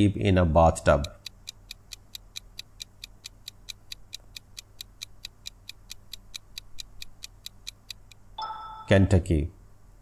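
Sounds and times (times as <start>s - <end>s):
countdown timer ticks: 0.6s - 8.9s.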